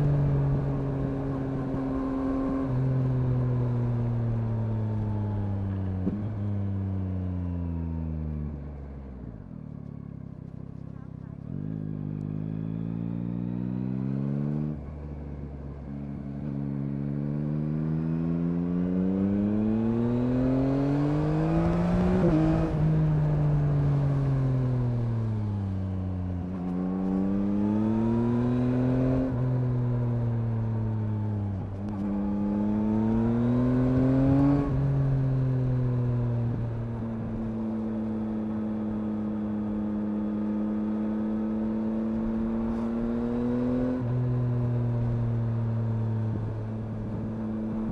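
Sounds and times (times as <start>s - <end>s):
motorcycle engine revving: 0.0s - 8.4s, 10.9s - 15.0s, 15.8s - 47.9s.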